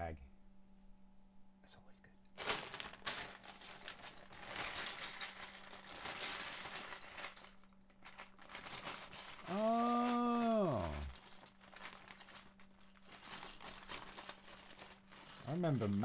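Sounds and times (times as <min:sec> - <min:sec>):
bag rustling: 0:02.4 - 0:16.0.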